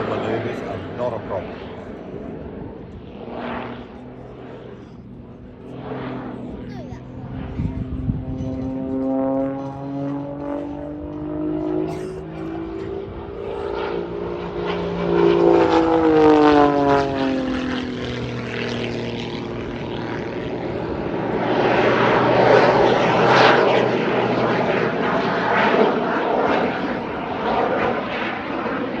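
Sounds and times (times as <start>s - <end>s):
biplane flying by: 0.0s - 29.0s.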